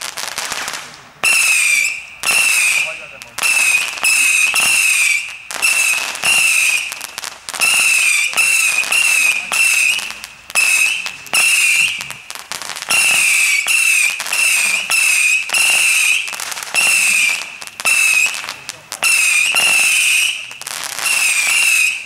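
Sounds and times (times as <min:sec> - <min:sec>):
firework pops: 0:00.0 - 0:22.0
firework whistles: 0:00.0 - 0:22.0.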